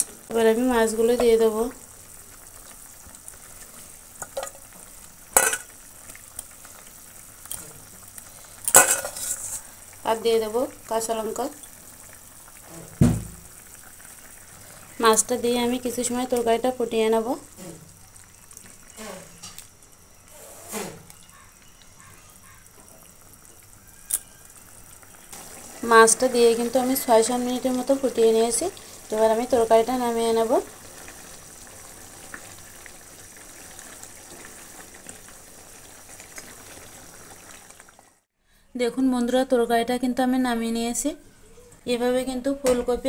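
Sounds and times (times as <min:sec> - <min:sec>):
curry bubbling in wok: 0:00.0 - 0:20.3, 0:20.9 - 0:38.3.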